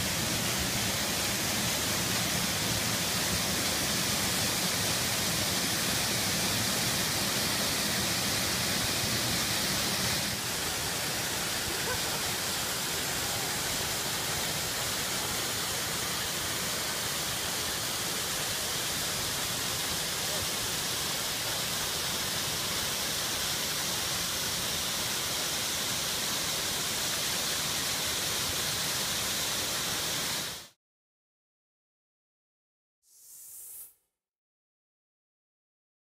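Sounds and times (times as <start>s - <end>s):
waterfall rushing: 0.0s - 30.6s.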